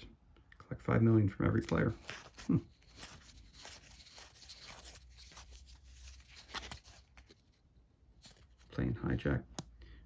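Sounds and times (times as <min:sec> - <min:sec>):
cards rustling and clicking: 0:01.4 - 0:09.7.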